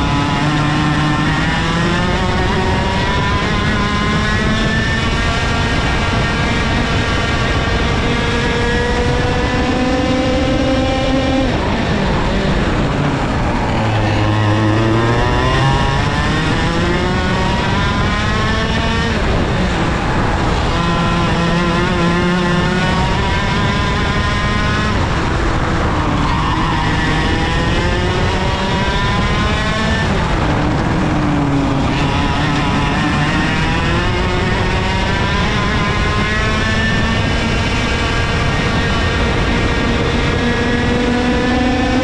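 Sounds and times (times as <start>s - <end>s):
kart engine revving: 0.0s - 42.0s.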